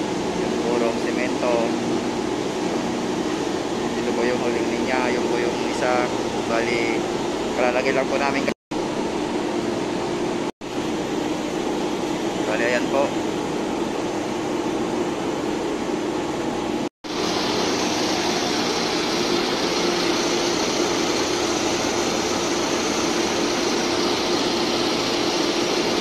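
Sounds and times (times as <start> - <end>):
machinery droning hum: 0.0 - 26.0.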